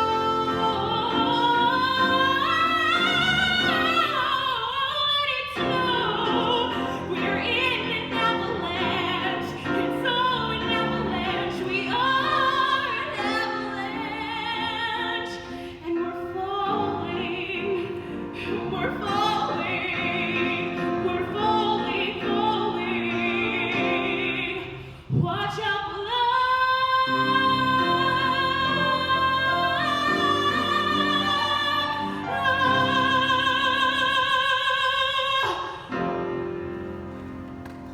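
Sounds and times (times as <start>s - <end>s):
musical accompaniment: 0.0s - 25.6s, 27.0s - 37.9s
woman singing with vibrato: 0.0s - 36.2s.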